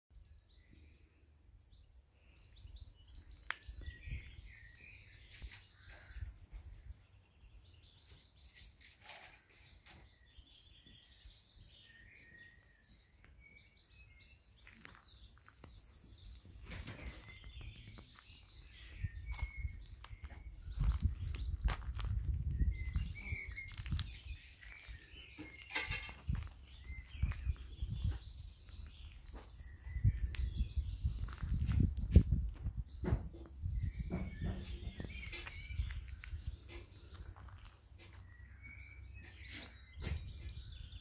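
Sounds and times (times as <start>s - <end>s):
songbirds chirping and trilling: 0.1s - 41.0s.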